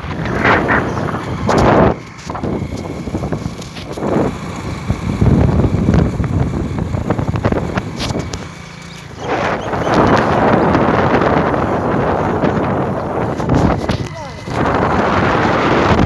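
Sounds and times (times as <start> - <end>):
motorcycle road noise: 0.0 - 16.0
wind buffeting microphone: 0.0 - 16.0.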